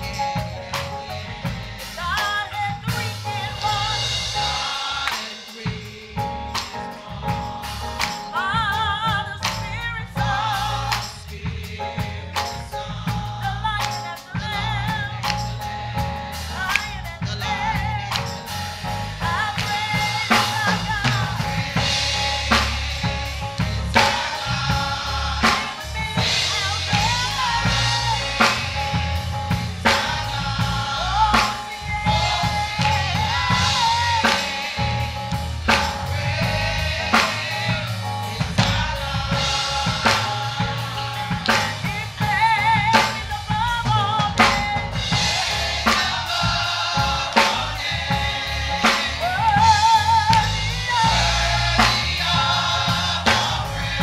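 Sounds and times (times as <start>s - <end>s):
drum kit steady beat: 0.0s - 54.0s
gospel choir singing: 0.0s - 54.0s
live band: 0.0s - 54.0s.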